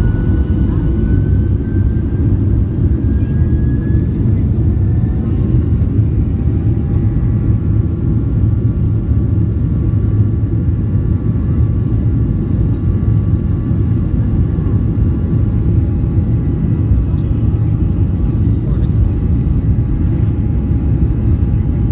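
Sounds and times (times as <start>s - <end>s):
faint engine whine: 0.0s - 21.9s
jet engines rumbling: 0.0s - 21.9s.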